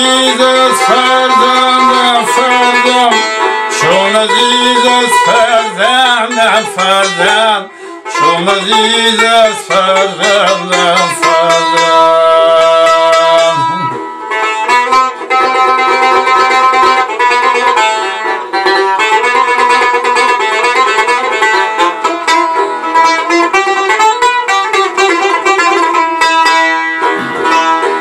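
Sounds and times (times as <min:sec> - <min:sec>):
lute rapidly plucked: 0:00.0 - 0:28.0.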